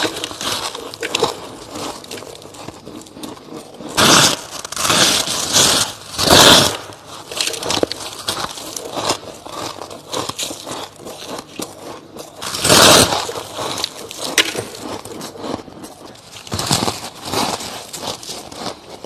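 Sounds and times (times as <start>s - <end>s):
ice being chewed and crunched: 0.0s - 19.0s.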